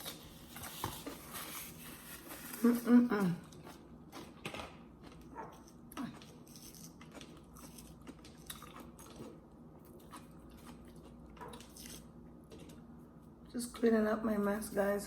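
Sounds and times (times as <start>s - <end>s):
person chewing food: 0.0s - 13.5s.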